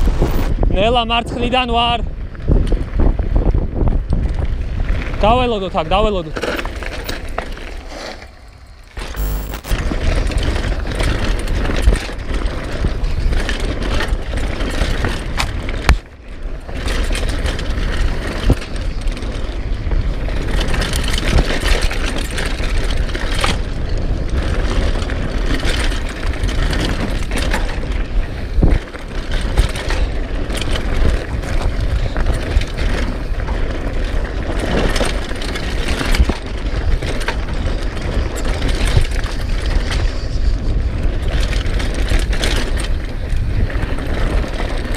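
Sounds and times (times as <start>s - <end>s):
bike rattling over bumps: 0.0s - 44.9s
wind rumbling on microphone: 0.0s - 44.9s
tyres rolling over dirt and stones: 4.2s - 44.9s.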